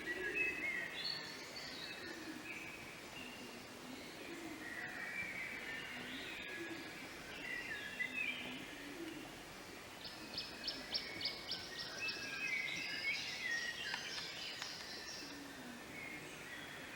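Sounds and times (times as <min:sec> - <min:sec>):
steady background hiss: 0:00.0 - 0:16.9.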